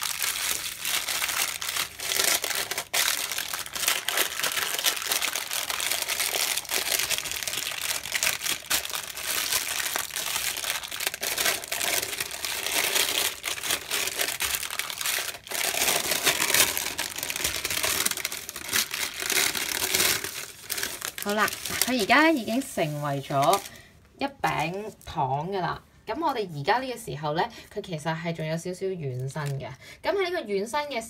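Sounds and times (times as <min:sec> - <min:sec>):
baking paper crinkling: 0:00.0 - 0:25.2.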